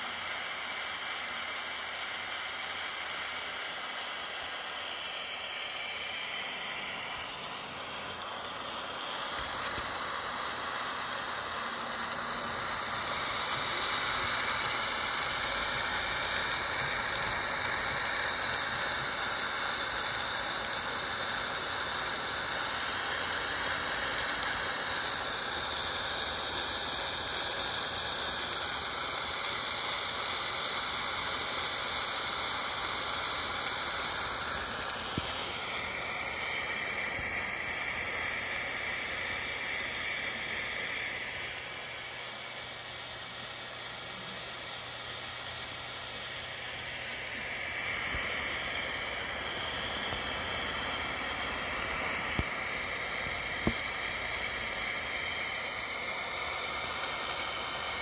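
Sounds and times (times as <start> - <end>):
light mechanical clatter: 0.0 - 55.5
steam hissing: 0.0 - 58.0.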